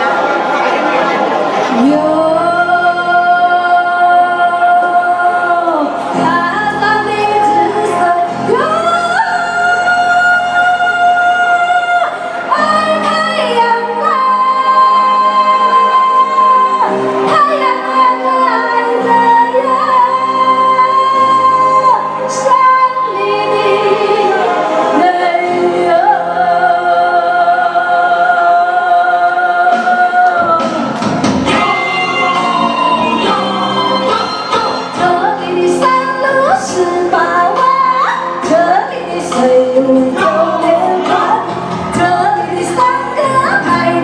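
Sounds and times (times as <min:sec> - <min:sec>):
woman singing dance music: 0:00.0 - 0:44.0.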